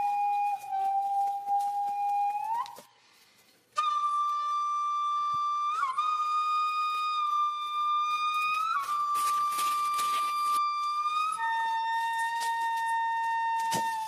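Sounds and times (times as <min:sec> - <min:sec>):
flute holding long notes: 0:00.0 - 0:03.0, 0:03.8 - 0:14.0.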